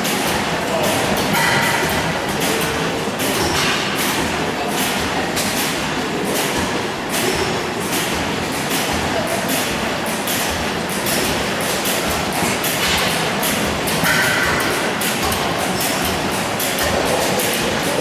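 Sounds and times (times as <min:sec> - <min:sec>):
mechanical clatter: 0:00.0 - 0:18.0.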